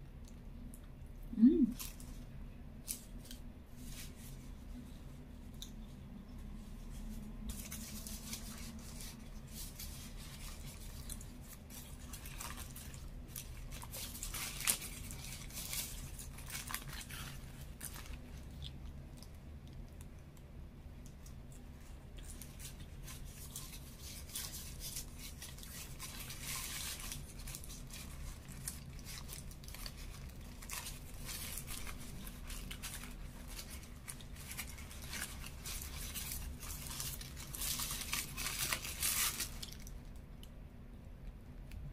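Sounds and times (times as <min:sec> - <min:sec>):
steady low hum: 0:00.0 - 0:41.9
paper wrapper crinkling: 0:01.7 - 0:20.2, 0:21.0 - 0:40.3.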